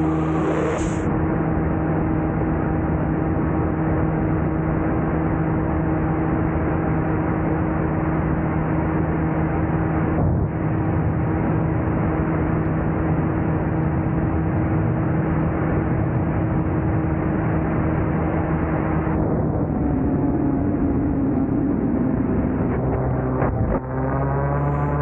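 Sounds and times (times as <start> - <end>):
ultralight aircraft engine running: 0.0 - 25.0.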